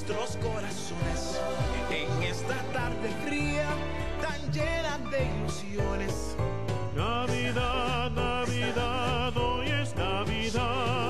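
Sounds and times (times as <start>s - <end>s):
male vocal group singing a carol: 0.0s - 6.2s, 7.0s - 11.0s.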